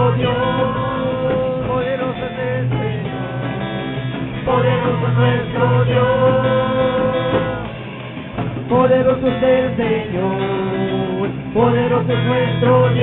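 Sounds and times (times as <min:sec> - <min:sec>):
bass guitar: 0:00.0 - 0:13.0
drums: 0:00.0 - 0:13.0
electric guitar: 0:00.0 - 0:13.0
people singing chorus: 0:00.0 - 0:13.0
worship band playing: 0:00.0 - 0:13.0.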